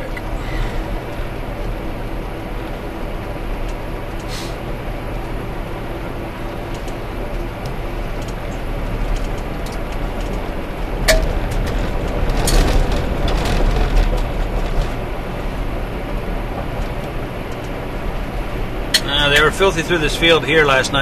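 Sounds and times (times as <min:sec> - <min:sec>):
car road noise: 0:00.0 - 0:21.0.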